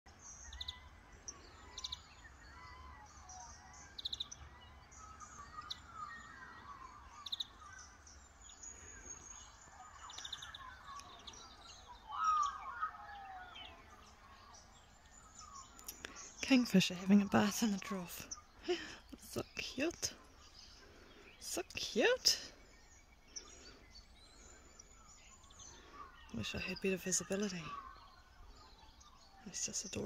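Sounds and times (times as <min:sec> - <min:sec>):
high chirping bird trills: 0:00.1 - 0:30.0
low warbled bird calls: 0:00.1 - 0:30.0.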